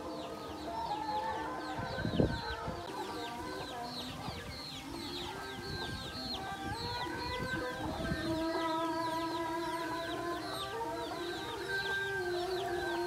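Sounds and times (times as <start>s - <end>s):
background music with held notes: 0.0s - 13.0s
chicks peeping: 0.0s - 13.0s.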